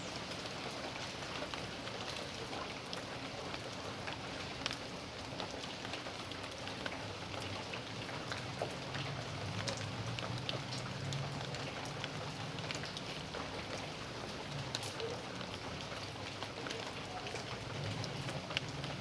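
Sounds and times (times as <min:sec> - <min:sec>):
raindrops ticking on surfaces: 0:00.0 - 0:19.0
steady rain hiss: 0:00.0 - 0:19.0.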